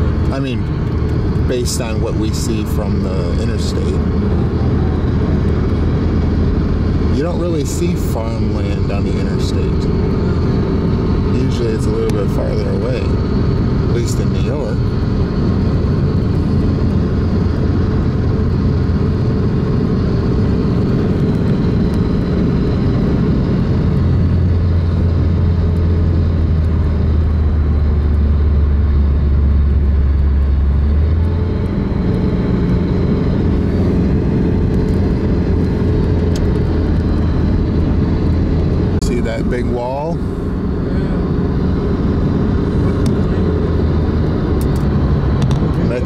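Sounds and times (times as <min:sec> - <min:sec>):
car road and engine noise: 0:00.0 - 0:46.0
deep low drone: 0:00.0 - 0:46.0.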